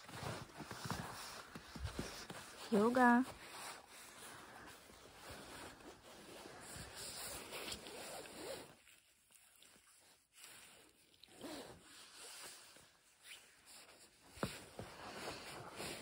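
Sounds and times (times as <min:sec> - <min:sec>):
jacket sleeve swishing: 0:00.0 - 0:09.0, 0:11.3 - 0:16.0.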